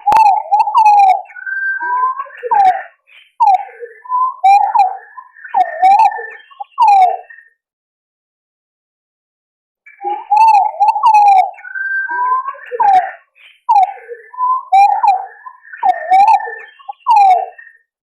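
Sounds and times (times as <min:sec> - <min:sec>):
pigeon call whistles: 0:00.0 - 0:07.3, 0:09.9 - 0:17.8.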